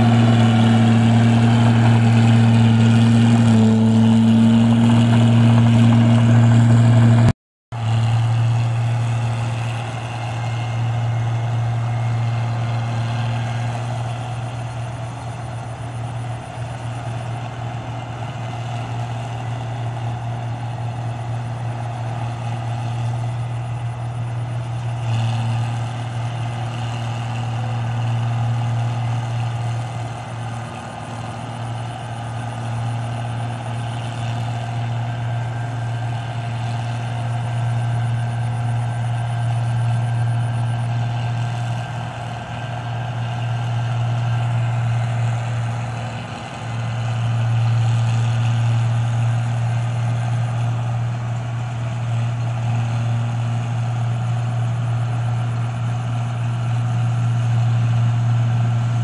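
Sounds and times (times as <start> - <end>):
combine harvester engine hum: 0.0 - 59.0
machinery whine: 0.0 - 59.0.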